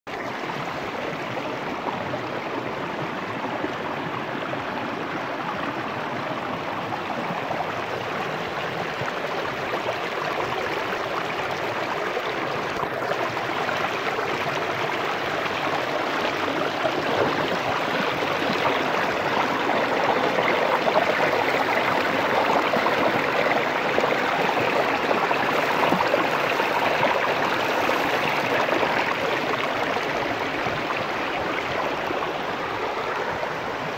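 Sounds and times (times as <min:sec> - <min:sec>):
water rushing over rocks: 0:00.1 - 0:33.9.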